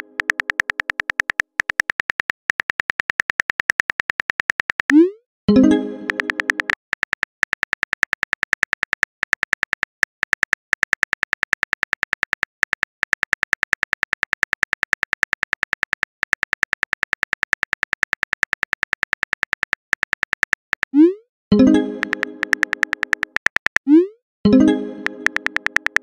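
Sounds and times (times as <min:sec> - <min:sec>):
phone keyboard key clicks: 0:00.0 - 0:05.0, 0:06.1 - 0:20.9, 0:22.0 - 0:23.9, 0:25.0 - 0:26.0.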